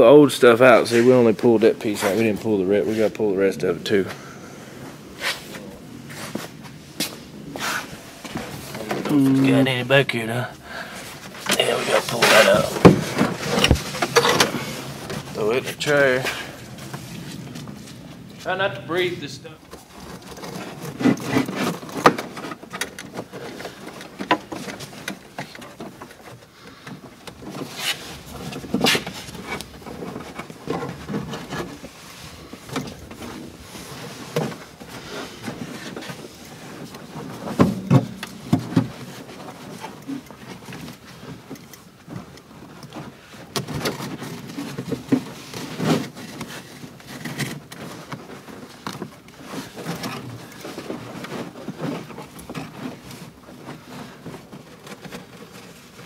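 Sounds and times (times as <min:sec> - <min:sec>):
rustling and scraping: 0:00.0 - 0:56.0.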